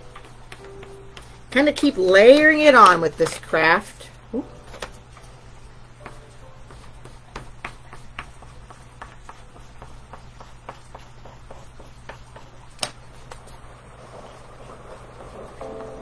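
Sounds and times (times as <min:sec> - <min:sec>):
pastel scratching on paper: 0:00.2 - 0:03.4, 0:06.0 - 0:16.0.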